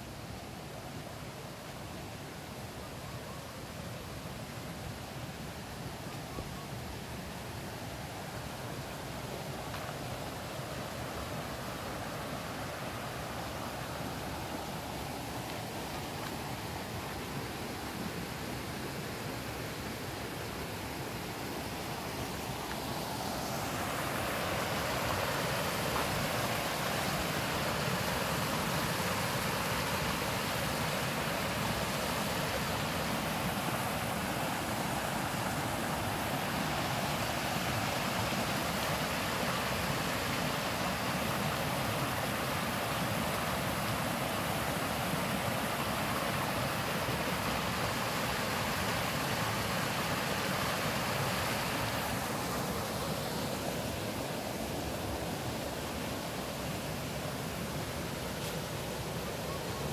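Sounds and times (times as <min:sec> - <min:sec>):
stream running over rocks: 0:00.0 - 0:59.9.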